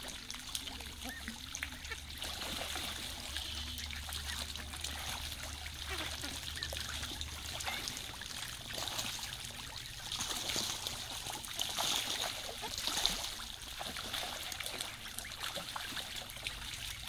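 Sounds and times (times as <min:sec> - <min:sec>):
ducks splashing in water: 0:00.0 - 0:17.0
trickle of running water: 0:00.0 - 0:17.0.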